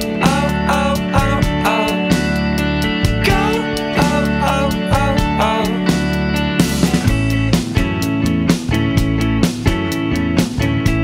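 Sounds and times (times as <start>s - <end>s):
drum beat: 0.0s - 11.0s
guitar: 0.0s - 11.0s.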